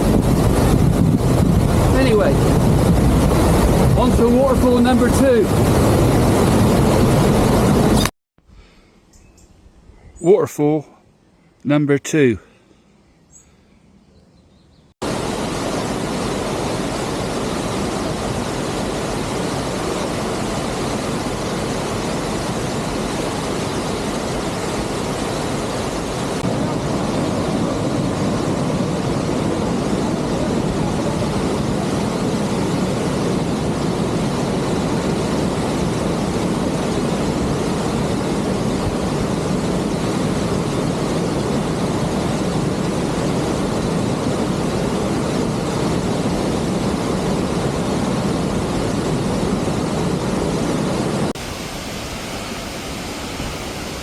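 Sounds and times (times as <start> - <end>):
waterfall roaring: 0.0 - 8.1, 15.0 - 54.0.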